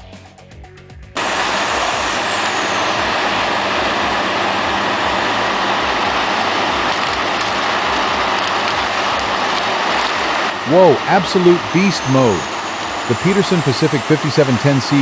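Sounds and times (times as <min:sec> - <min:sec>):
wood grinder grinding wood: 0:01.2 - 0:15.0.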